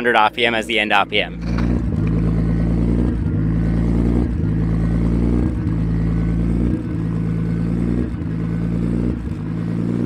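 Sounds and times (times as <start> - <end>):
car engine idling with surging note: 0.0 - 10.0.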